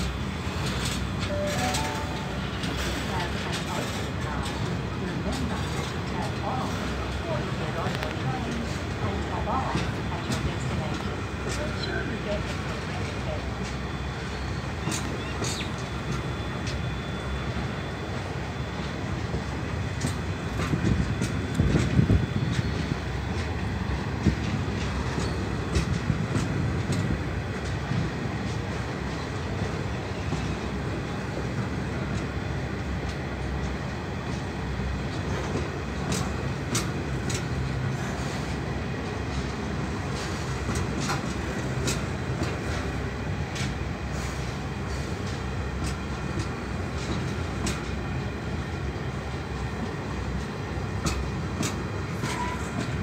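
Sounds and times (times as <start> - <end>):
clickety-clack of rail joints: 0.0 - 53.0
train wheels rumbling over rails: 0.0 - 53.0.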